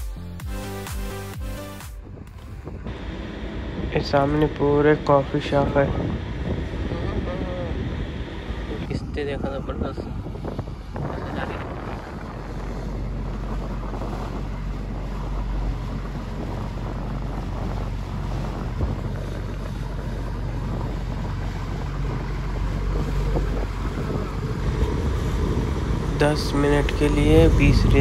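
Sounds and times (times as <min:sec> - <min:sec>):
boat engine drone: 0:00.0 - 0:28.0
wind noise on microphone: 0:02.0 - 0:28.0.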